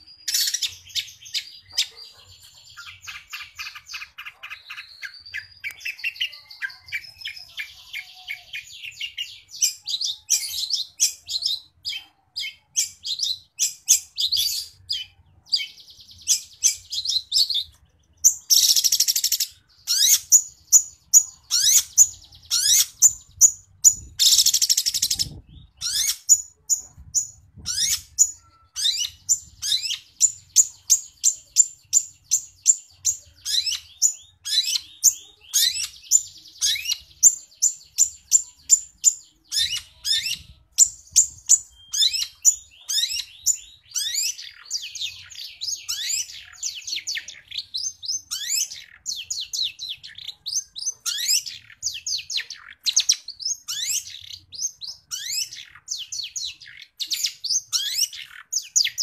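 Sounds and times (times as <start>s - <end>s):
bird singing with sharp chirps: 0.0s - 59.0s.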